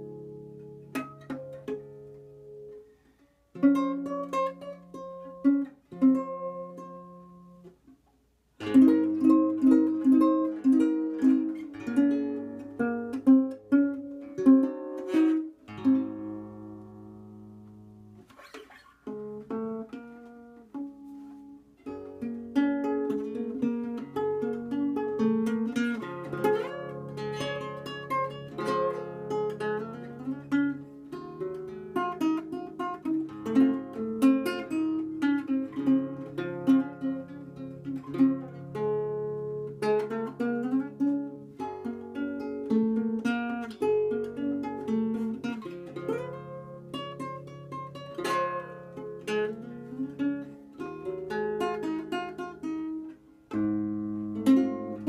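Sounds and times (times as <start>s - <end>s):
classical guitar fingerstyle: 0.0s - 55.0s.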